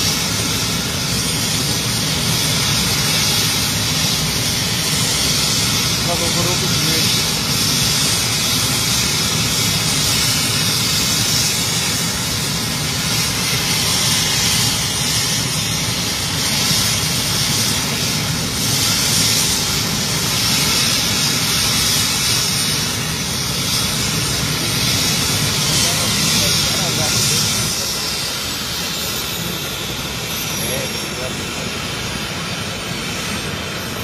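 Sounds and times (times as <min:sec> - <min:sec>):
helicopter turbine and rotor: 0:00.0 - 0:34.0.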